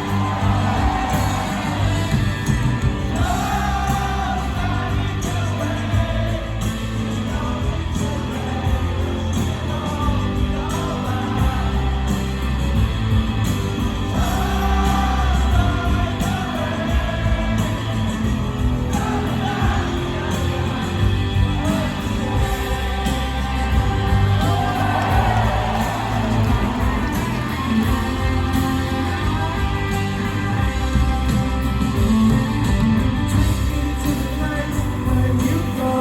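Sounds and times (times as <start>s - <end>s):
person singing lead vocal: 0.0s - 13.2s, 14.0s - 36.0s
live rock band playing: 0.0s - 36.0s.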